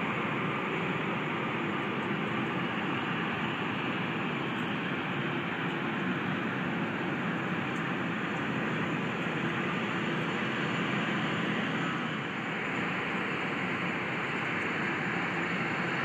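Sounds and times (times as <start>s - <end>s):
distant jet engines running: 0.0s - 16.0s.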